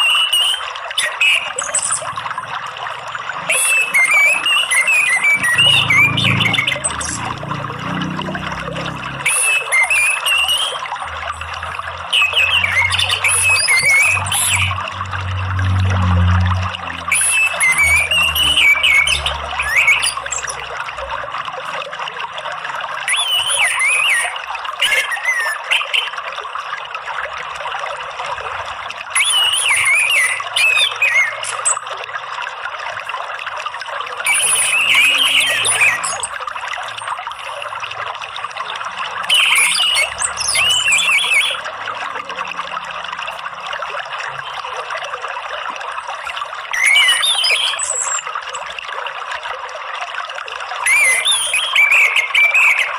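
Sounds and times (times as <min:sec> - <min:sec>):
trickling water: 0:00.0 - 0:52.9.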